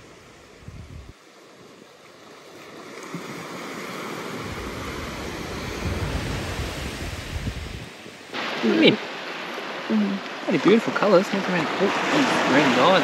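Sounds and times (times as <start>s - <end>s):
small waves breaking on sand: 0.0s - 13.0s.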